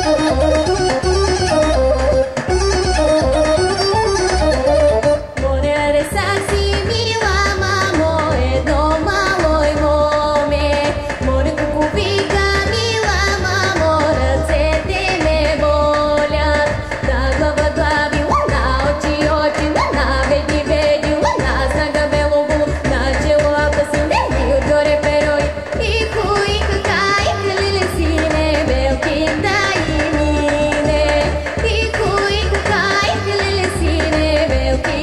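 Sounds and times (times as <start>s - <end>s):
amplified instrumental accompaniment: 0.0s - 35.0s
woman singing into a microphone: 5.4s - 35.0s.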